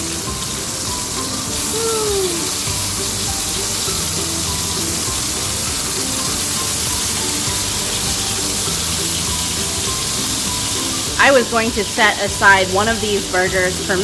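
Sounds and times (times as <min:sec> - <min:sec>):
beef patties sizzling in oil: 0:00.0 - 0:14.0.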